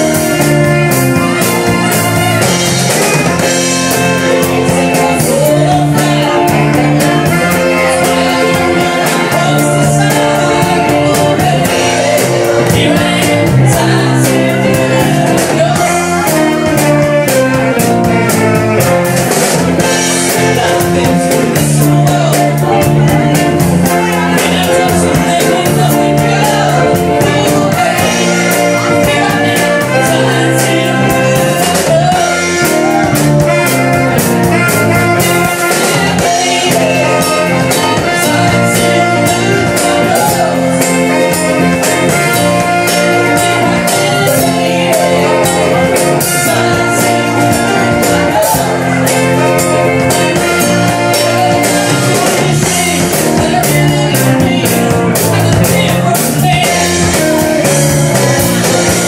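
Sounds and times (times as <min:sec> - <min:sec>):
lead singer singing: 0:00.0 - 0:59.0
live horn band playing: 0:00.0 - 0:59.0.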